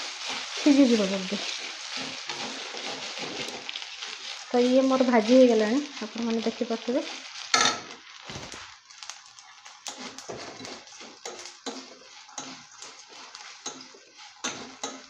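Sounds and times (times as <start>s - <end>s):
spatula scraping a pan: 0.0s - 15.0s.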